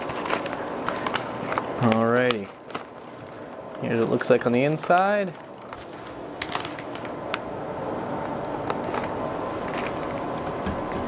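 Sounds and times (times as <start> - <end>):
foil pouch crinkling: 0.0 - 10.5.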